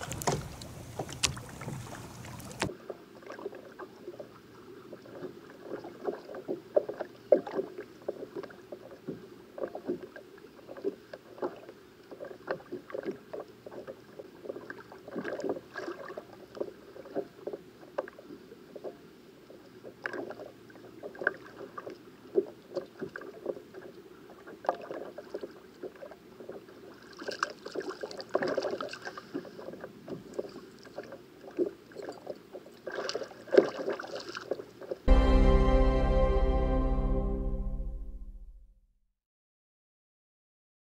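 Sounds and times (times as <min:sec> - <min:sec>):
waves lapping against kayak hull: 0:00.0 - 0:35.0.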